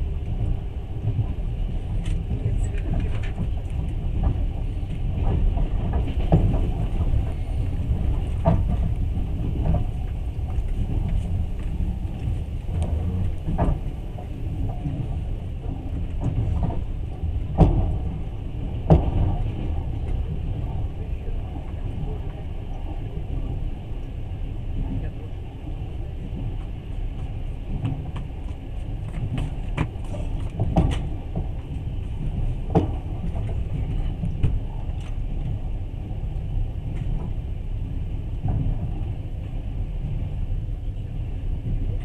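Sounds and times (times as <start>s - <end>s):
train rumble from inside carriage: 0.0s - 42.0s.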